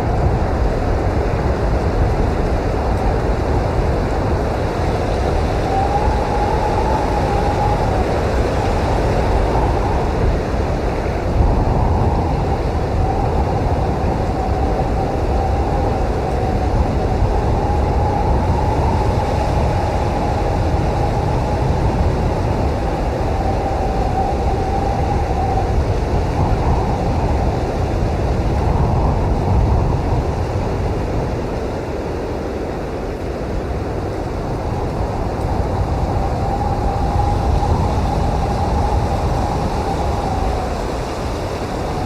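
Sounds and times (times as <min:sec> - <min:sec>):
blizzard wind blowing: 0:00.0 - 0:42.0
wavering wind whistle: 0:00.0 - 0:42.0.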